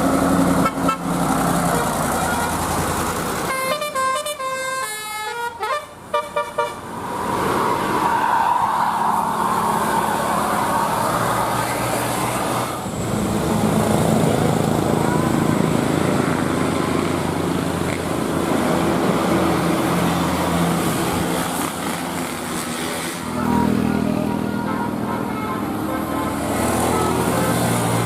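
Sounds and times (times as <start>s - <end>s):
passing vehicles: 0.0s - 28.0s.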